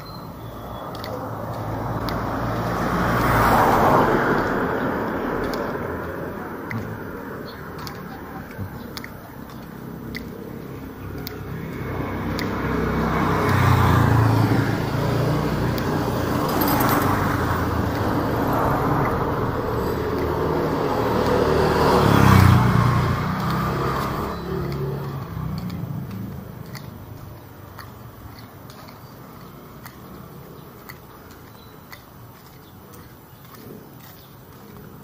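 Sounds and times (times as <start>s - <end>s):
vehicles driving past: 0.0s - 35.0s.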